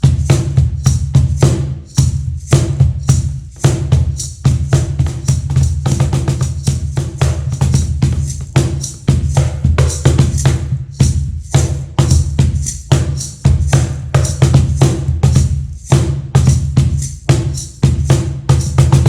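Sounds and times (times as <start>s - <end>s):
cajon played by hand: 0.0s - 19.0s.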